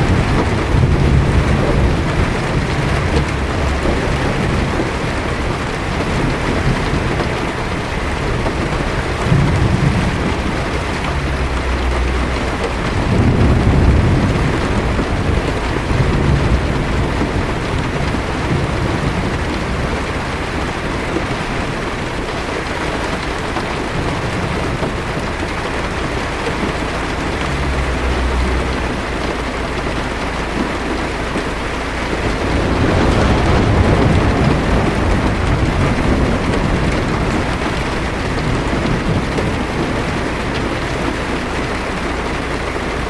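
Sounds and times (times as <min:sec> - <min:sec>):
heavy rain on car roof: 0:00.0 - 0:43.0
low rolling thunder: 0:00.0 - 0:43.0.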